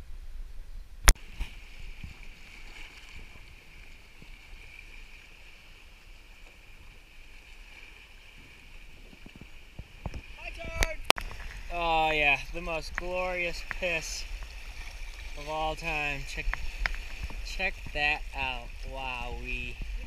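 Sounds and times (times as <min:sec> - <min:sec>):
paddle splashes: 0:01.1 - 0:20.0
water washing against kayak: 0:01.1 - 0:20.0.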